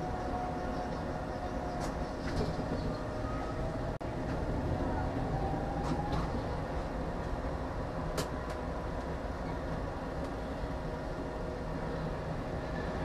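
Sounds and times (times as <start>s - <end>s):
tram rumble with whine: 0.0s - 13.0s.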